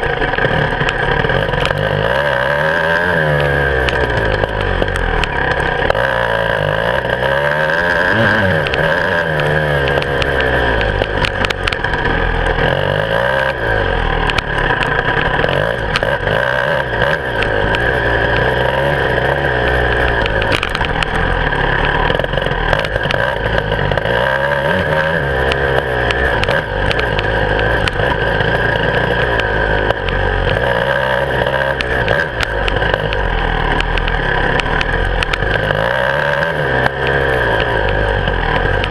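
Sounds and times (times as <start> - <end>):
motorcycle clicks and knocks: 0.0 - 38.9
two-stroke motorcycle engine revving: 0.0 - 38.9.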